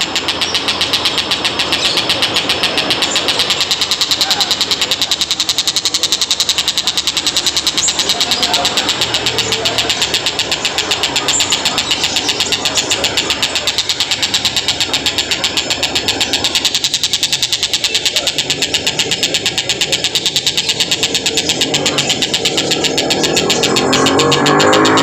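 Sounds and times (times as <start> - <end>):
kingfisher calling: 0.0 - 25.0.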